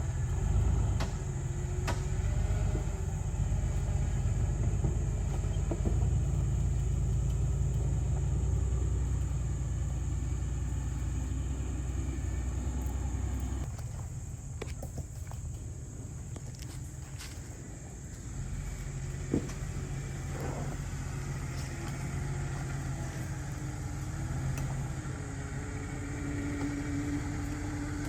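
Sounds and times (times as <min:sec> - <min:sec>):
engine low rumble: 0:00.0 - 0:28.0.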